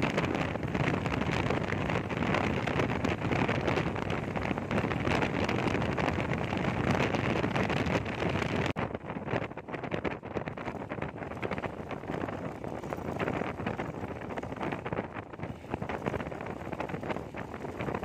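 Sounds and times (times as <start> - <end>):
vehicle running on road: 0.0 - 18.0
wind buffeting microphone: 0.0 - 18.0.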